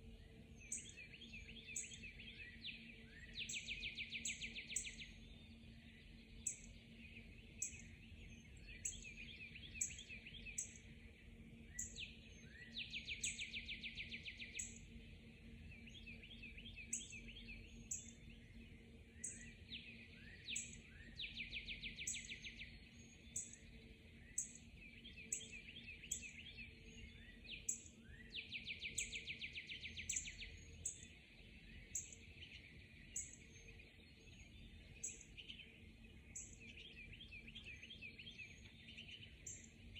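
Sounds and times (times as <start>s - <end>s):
faint steady hum: 0.0s - 39.9s
songbirds chirping: 0.0s - 39.9s.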